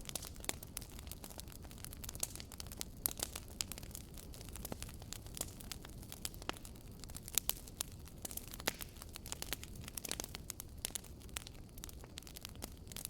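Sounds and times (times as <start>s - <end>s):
campfire pops and snaps: 0.0s - 13.0s.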